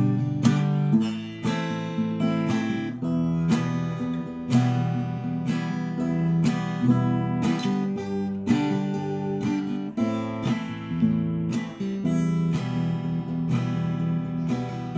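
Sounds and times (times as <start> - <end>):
percussive fingerstyle acoustic guitar: 0.0 - 14.9.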